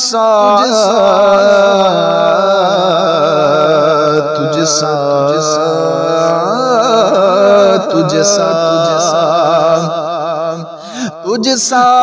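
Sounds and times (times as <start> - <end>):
man singing melismatic line: 0.0 - 12.0.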